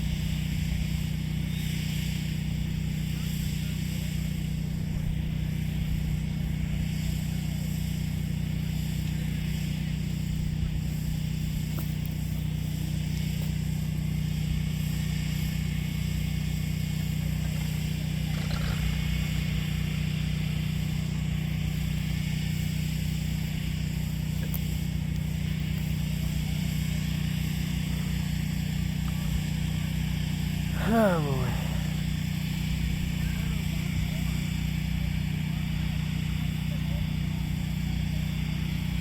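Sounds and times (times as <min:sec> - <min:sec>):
engine running with low hum: 0:00.0 - 0:39.0.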